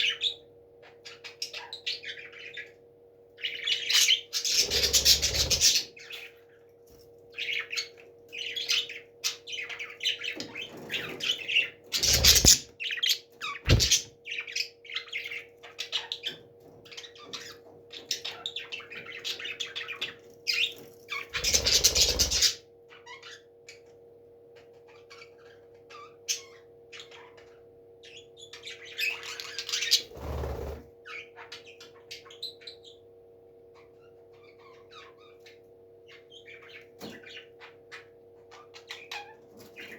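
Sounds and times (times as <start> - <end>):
parrots chirping: 0.0 - 2.8, 3.4 - 6.7, 7.3 - 23.9, 24.5 - 33.1, 33.7 - 39.9.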